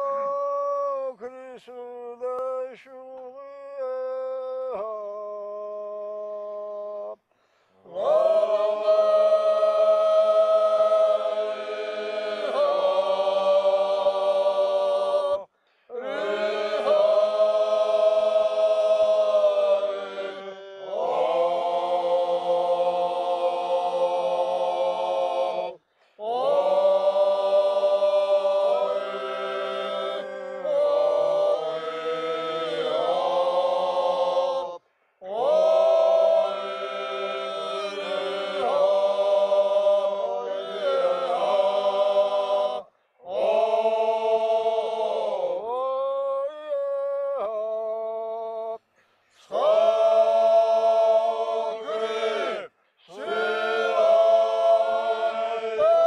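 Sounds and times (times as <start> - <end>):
men singing in harmony: 7.9 - 48.6, 49.4 - 56.0.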